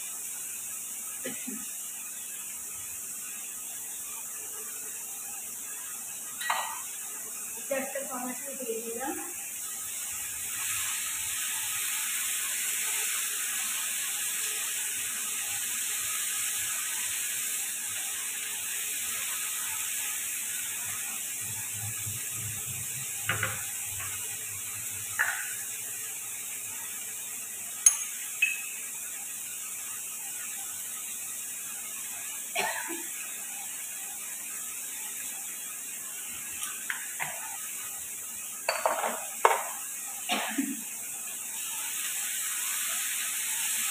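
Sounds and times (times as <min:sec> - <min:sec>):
potatoes sizzling in a pan: 0:00.0 - 0:43.9.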